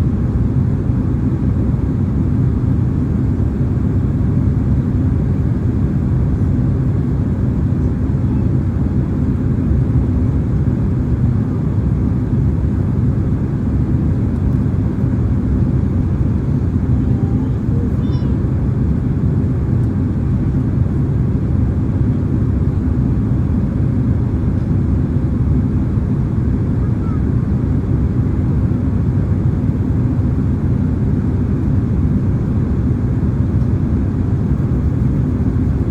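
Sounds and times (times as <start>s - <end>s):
airplane cabin drone: 0.0s - 35.9s.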